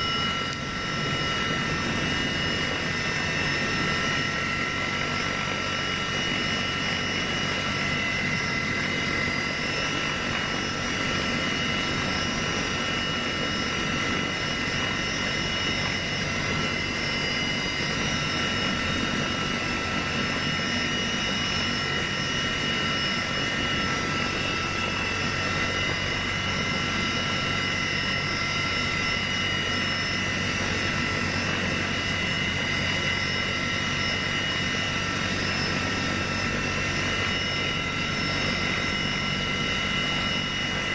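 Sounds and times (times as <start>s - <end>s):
engine drone with high whining tones: 0.0s - 40.9s.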